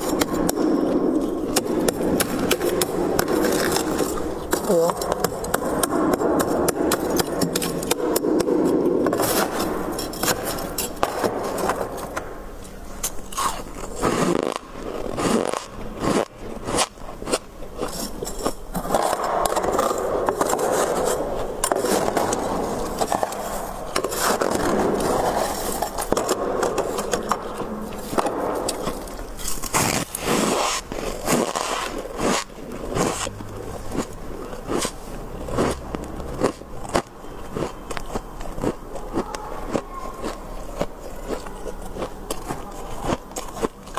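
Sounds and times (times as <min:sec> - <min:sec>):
freezer frost being scraped: 0:00.0 - 0:12.1, 0:13.2 - 0:38.1.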